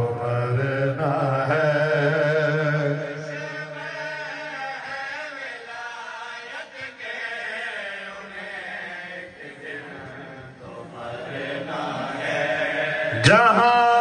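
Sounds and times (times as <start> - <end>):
man chanting through microphone: 0.0 - 14.0.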